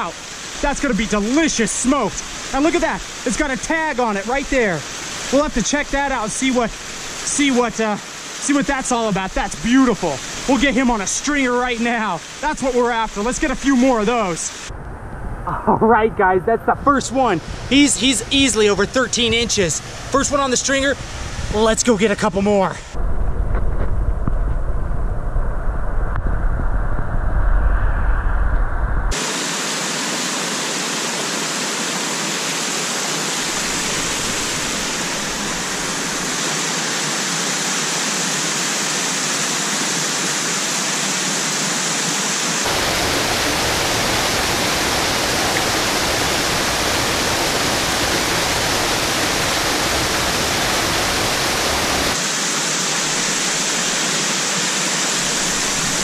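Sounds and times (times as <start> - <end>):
waterfall rushing into pool: 0.0 - 14.7, 16.9 - 23.0, 29.1 - 56.0.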